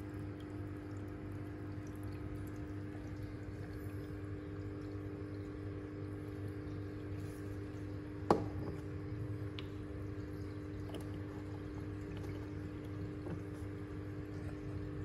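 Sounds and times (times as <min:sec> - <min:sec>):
aquarium pump humming: 0:00.0 - 0:15.0
water trickling: 0:00.0 - 0:15.0.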